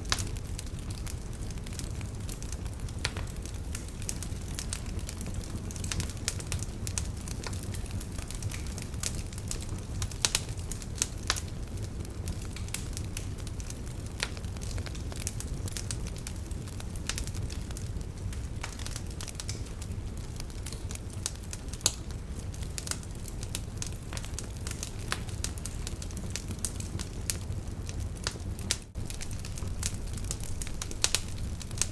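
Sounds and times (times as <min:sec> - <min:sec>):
low rumble of flames: 0:00.0 - 0:31.9
wood fire crackling: 0:00.0 - 0:31.9
sharp pops of burning wood: 0:00.1 - 0:31.9.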